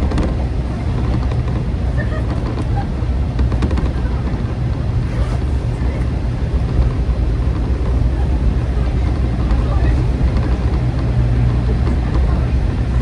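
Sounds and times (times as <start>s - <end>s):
diesel railcar rumble: 0.0s - 13.0s.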